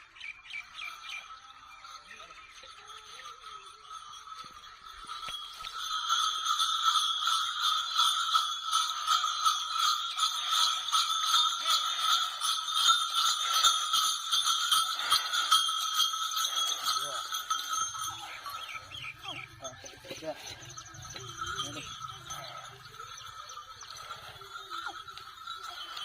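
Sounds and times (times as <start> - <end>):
animal bells jingling: 0.0 - 26.0.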